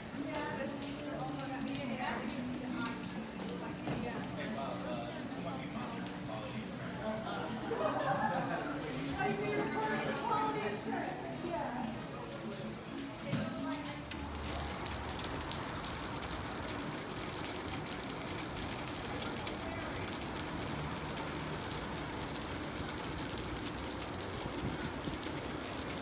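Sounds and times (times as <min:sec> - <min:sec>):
water drips and splashes: 0:00.0 - 0:26.0
water pouring and splattering: 0:00.0 - 0:26.0.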